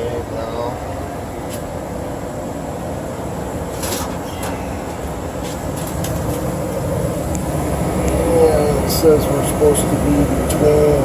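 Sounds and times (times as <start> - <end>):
furnace air rushing through ducts: 0.0 - 11.0.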